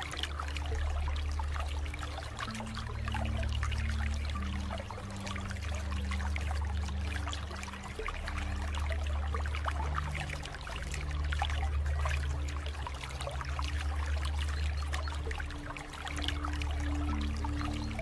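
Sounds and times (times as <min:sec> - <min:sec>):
soft low music notes: 0:00.0 - 0:18.0
water trickling and splashing: 0:00.0 - 0:18.0.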